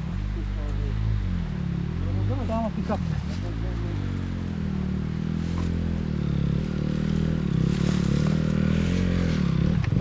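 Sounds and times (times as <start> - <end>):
dirt bike engines idling: 0.0 - 10.0.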